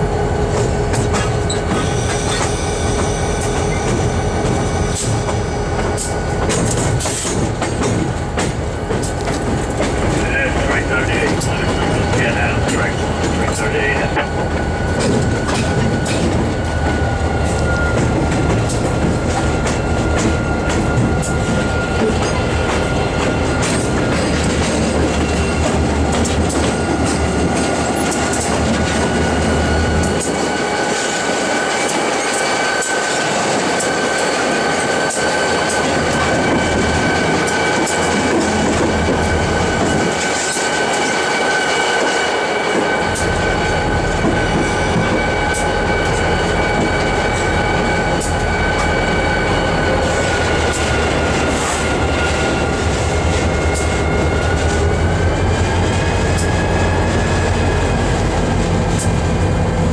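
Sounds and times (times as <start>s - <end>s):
locomotive engine rumble: 0.0s - 31.6s, 34.6s - 59.9s
high wheel squeal: 1.1s - 6.3s, 10.3s - 25.8s, 26.5s - 58.0s.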